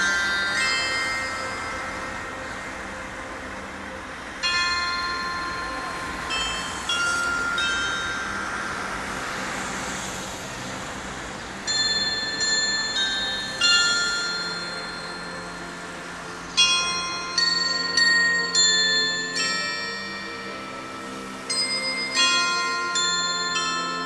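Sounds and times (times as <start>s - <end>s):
chime bells playing melody: 0.0s - 24.0s.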